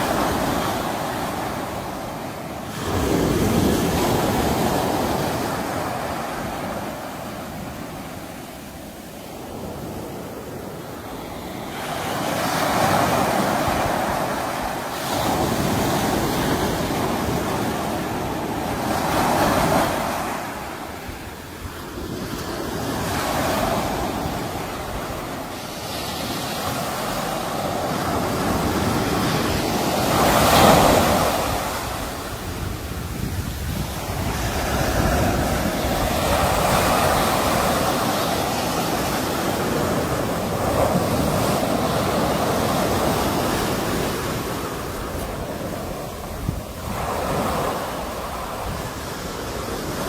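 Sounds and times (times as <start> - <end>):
sea waves breaking on shore: 0.0 - 50.0.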